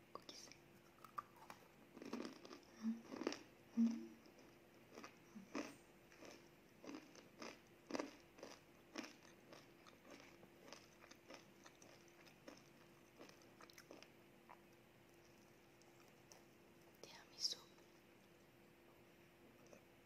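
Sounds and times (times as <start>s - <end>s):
crunchy cookie chewing: 0.3s - 17.0s.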